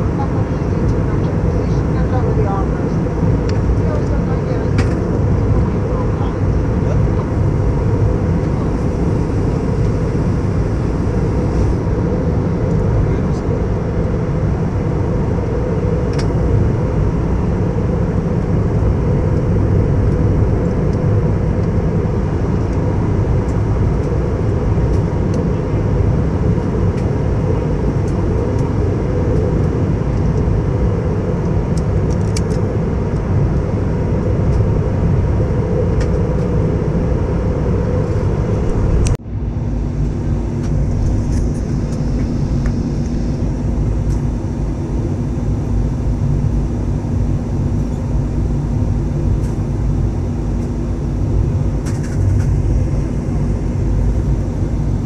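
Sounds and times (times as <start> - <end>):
airplane cabin noise: 0.0 - 55.0
low steady hum: 0.0 - 55.0.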